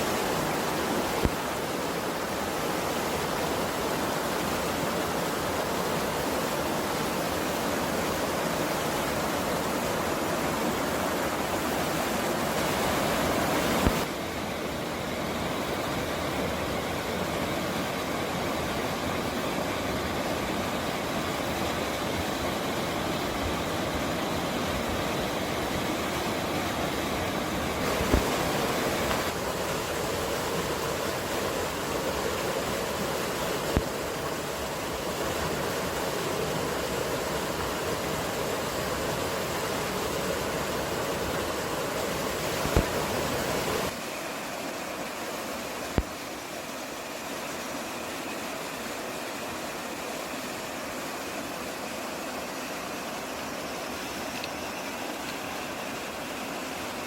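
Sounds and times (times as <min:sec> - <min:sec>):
rushing outdoor noise: 0:00.0 - 0:57.0.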